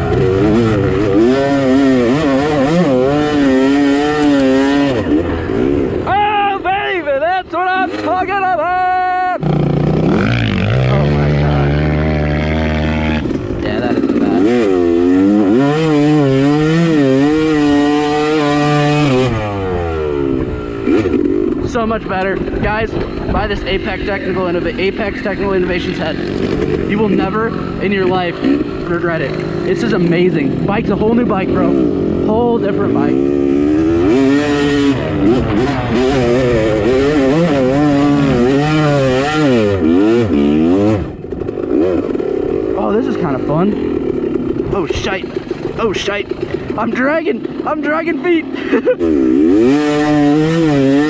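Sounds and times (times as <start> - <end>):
dirt bike engine revving hard: 0.0 - 8.4, 9.3 - 51.0.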